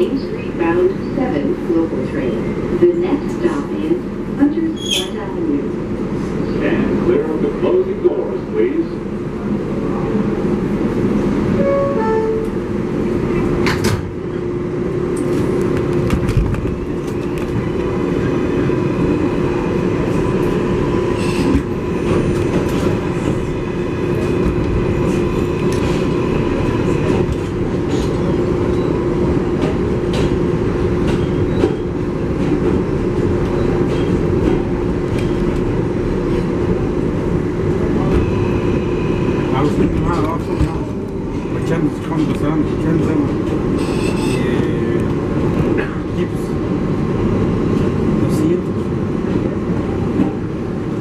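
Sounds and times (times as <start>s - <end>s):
subway train rising whine: 0.0s - 51.0s
train running rumble: 0.0s - 51.0s.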